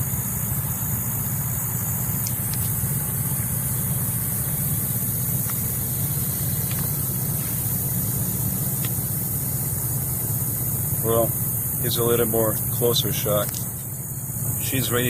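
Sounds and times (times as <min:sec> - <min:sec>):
high-pitched hiss: 0:00.0 - 0:15.0
low engine drone: 0:00.0 - 0:15.0.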